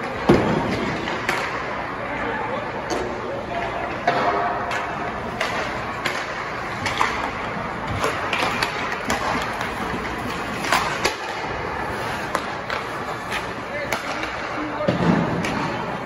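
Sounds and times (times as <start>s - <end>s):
hockey sticks and pucks clacking: 0.0s - 16.0s
rink ambience rush: 0.0s - 16.0s.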